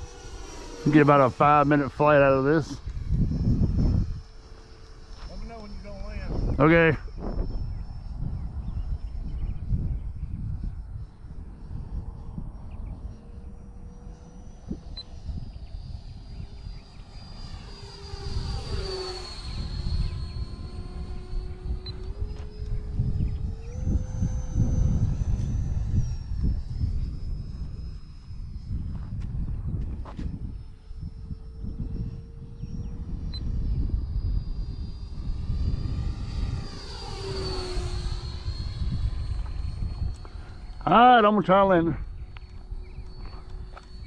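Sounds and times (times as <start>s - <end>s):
model jet whining past: 0.0s - 44.0s
wind buffeting microphone: 0.0s - 44.0s.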